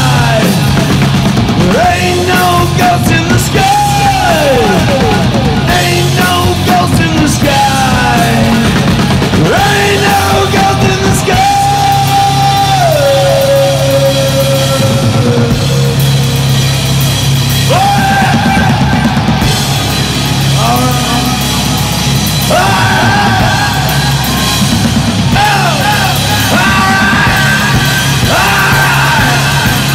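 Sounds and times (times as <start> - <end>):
distorted electric guitar: 0.0 - 29.9
drum kit: 0.0 - 29.9.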